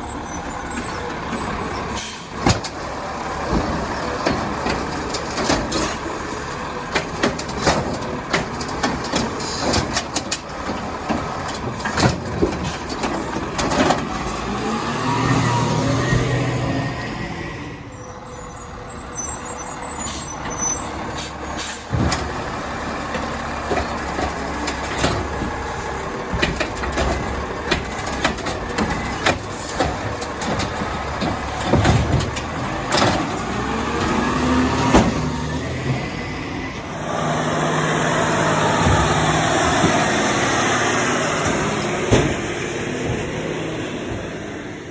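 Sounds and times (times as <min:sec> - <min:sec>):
garbage truck running: 0:00.0 - 0:44.9
garbage truck knocks and clatters: 0:00.8 - 0:16.8, 0:20.4 - 0:36.9, 0:38.2 - 0:44.9.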